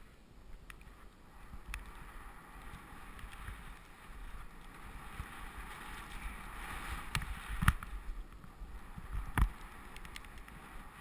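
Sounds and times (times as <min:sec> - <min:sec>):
wind rumble on microphone: 0:00.0 - 0:11.0
skis hissing through powder snow: 0:00.9 - 0:11.0.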